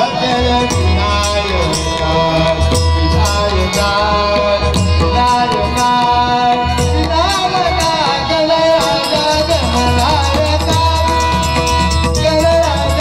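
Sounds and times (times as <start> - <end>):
folk music over sound system: 0.0 - 13.0.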